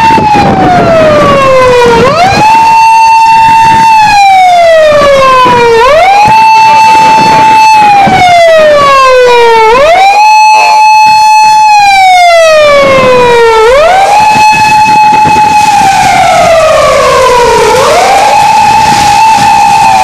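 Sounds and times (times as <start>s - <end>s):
police car electronic siren: 0.0s - 20.0s.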